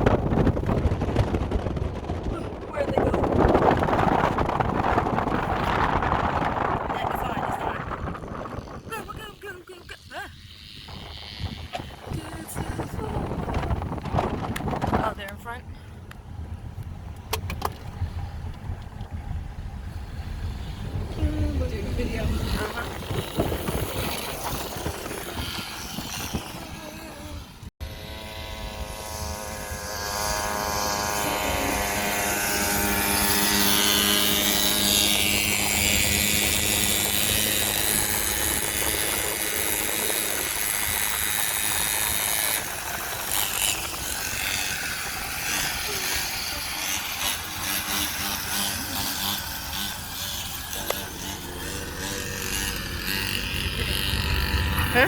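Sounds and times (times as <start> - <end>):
small engine accelerating: 0.0 - 15.7, 18.0 - 55.0
wind rumbling on microphone: 0.0 - 55.0.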